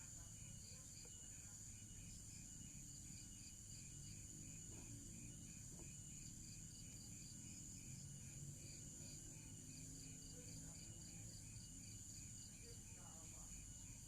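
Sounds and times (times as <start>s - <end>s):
faint insects chirping: 0.0s - 14.0s
steady high-pitched whine: 0.0s - 14.0s.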